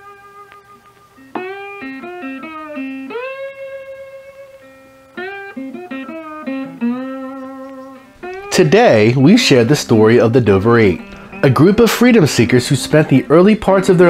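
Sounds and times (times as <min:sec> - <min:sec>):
solo guitar melody: 0:00.0 - 0:14.0.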